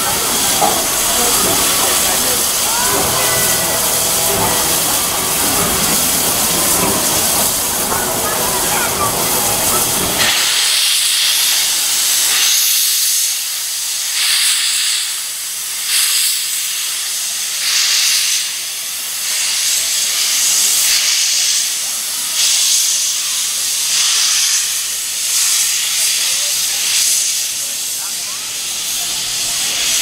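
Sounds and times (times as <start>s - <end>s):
steam hissing: 0.0s - 30.0s.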